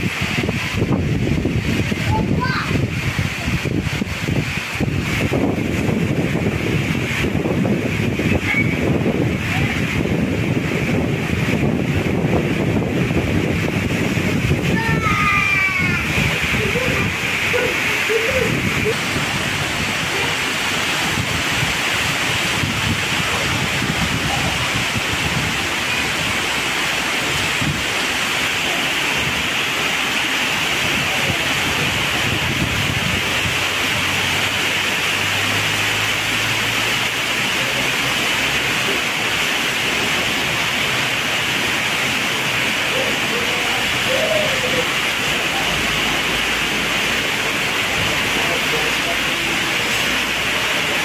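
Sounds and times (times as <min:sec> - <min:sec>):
heavy rain: 0:00.0 - 0:51.0
car passing on wet road: 0:03.6 - 0:51.0.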